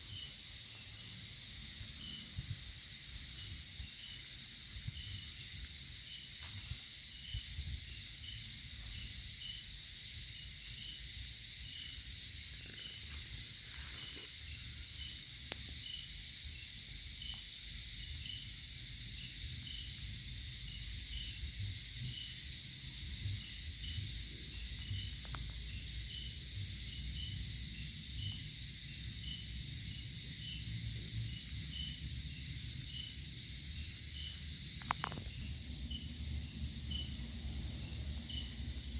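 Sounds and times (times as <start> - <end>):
cricket-like chirp: 0.0 - 38.9
insects buzzing: 0.0 - 38.9.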